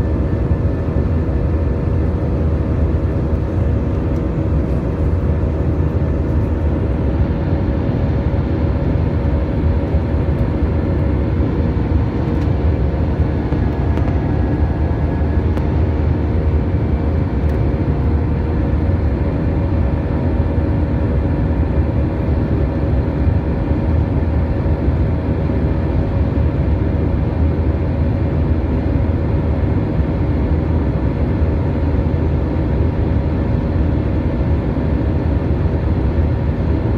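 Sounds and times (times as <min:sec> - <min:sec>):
jet engine and airflow noise: 0:00.0 - 0:36.9
steady humming tones: 0:00.0 - 0:36.9.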